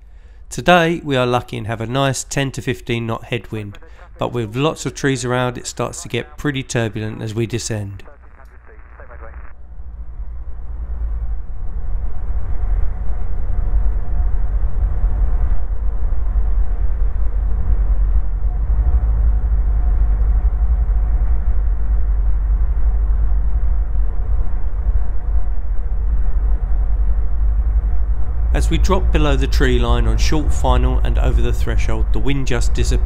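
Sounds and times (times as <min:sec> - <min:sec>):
faint steady hum: 0:00.0 - 0:33.0
light aircraft engine rumble: 0:00.0 - 0:33.0.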